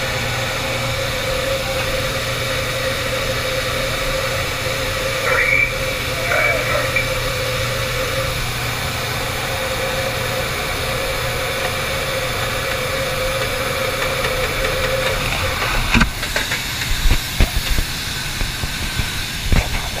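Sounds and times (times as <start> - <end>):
vehicle engine drone with hiss: 0.0 - 20.0.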